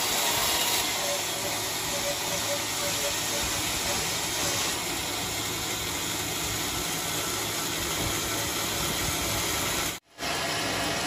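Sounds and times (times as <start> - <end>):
band saw cutting log: 0.0 - 11.0
mill motor running: 0.0 - 11.0.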